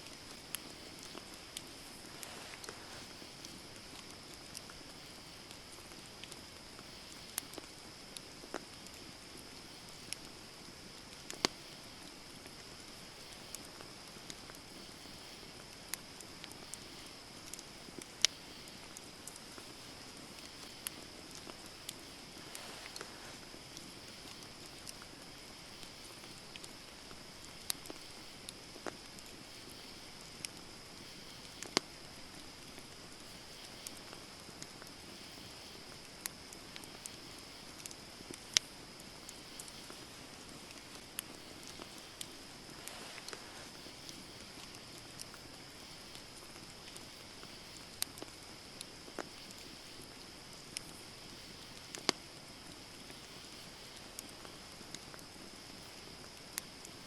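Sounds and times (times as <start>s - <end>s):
campfire wood popping: 0.0s - 57.0s
steady high hiss: 0.0s - 57.0s
wood fire crackling: 0.0s - 57.0s.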